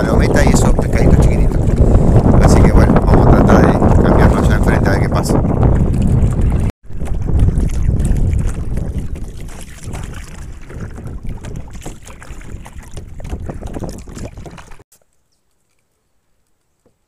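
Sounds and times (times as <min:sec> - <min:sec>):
wind rumbling on microphone: 0:00.0 - 0:14.8.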